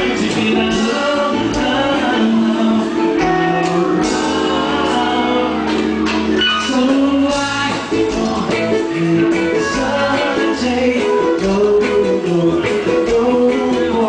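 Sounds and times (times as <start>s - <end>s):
live band music: 0.0s - 14.0s
person singing: 0.0s - 14.0s.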